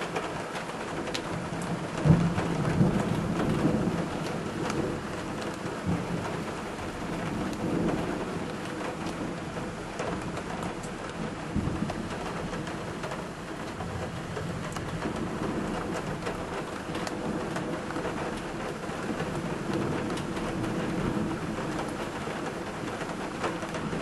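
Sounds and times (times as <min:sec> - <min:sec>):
heavy rain pouring: 0:00.0 - 0:24.0
raindrops tapping a window: 0:00.0 - 0:24.0
thunder rumble: 0:00.0 - 0:24.0.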